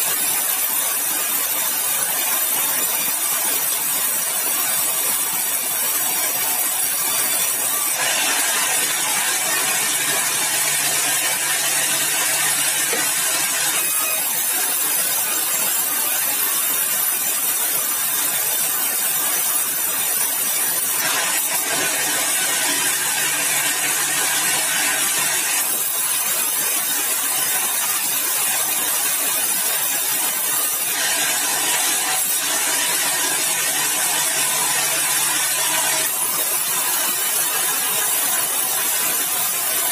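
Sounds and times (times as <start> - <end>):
sawmill blade cutting timber: 0.0 - 39.9.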